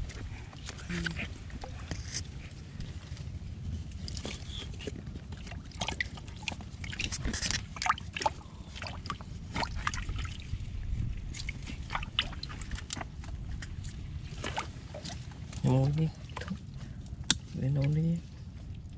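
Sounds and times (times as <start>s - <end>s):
muddy water sloshing and splashing: 0.0s - 18.9s.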